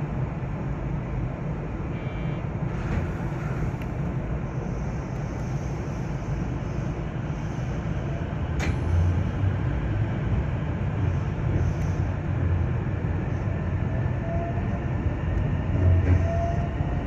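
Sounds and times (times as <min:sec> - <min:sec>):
train wheels rumbling: 0:02.6 - 0:17.0.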